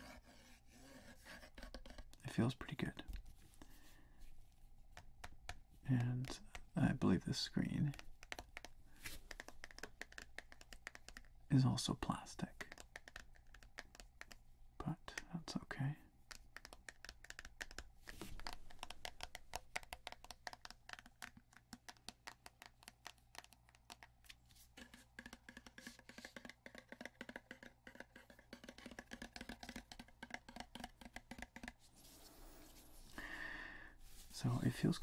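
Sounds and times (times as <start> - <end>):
fingertips tapping on plastic: 1.2 - 3.2, 4.9 - 31.8.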